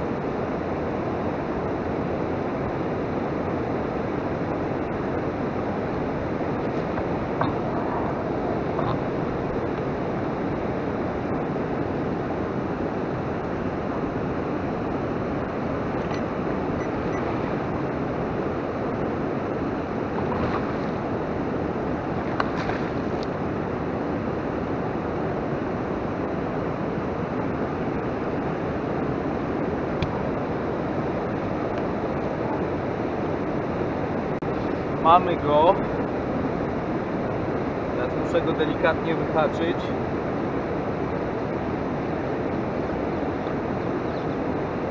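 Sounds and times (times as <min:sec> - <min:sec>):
rushing water: 0:00.0 - 0:44.9
wind: 0:00.0 - 0:44.9.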